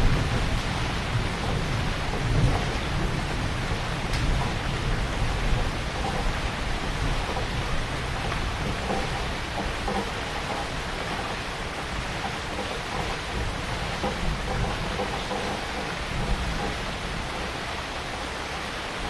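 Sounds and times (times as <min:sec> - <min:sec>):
distant thunder rumbling: 0:00.0 - 0:18.6
heavy rain falling: 0:00.0 - 0:19.0.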